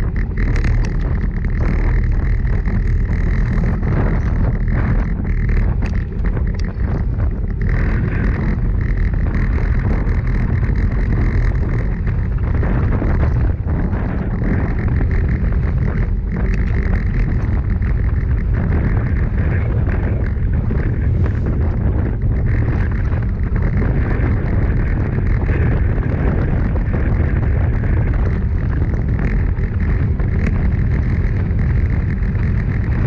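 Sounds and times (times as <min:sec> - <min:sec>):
tyres humming on asphalt: 0:00.0 - 0:33.0
wind buffeting microphone: 0:00.0 - 0:33.0.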